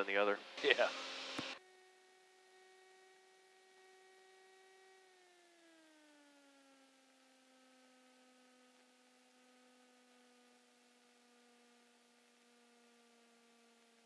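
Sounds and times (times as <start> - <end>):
faint steady whine: 0.0 - 14.0.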